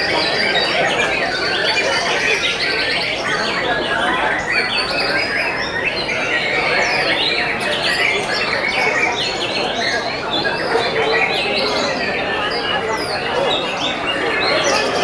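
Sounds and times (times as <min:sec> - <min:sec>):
chorus of birds singing: 0:00.0 - 0:15.0.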